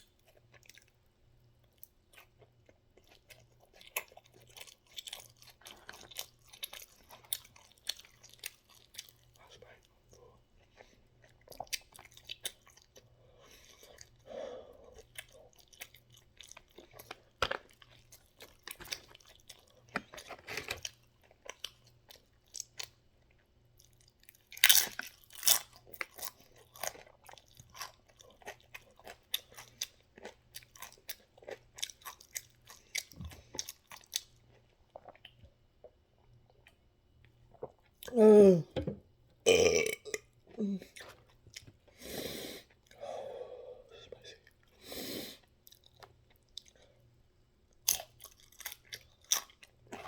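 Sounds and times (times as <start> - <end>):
person chewing crunchy food: 0.1 - 1.0, 1.7 - 14.2, 14.8 - 38.1, 39.5 - 43.0, 47.7 - 50.0.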